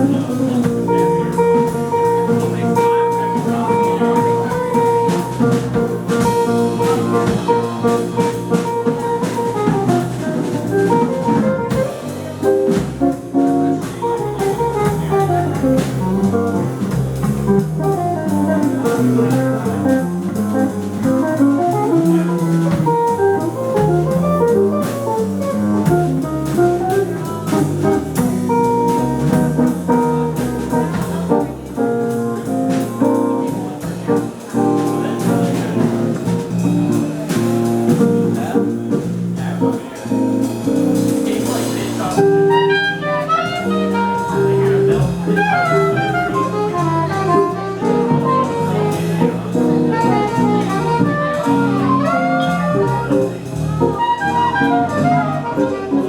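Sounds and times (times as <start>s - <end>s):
jazz quartet playing: 0.0s - 56.0s.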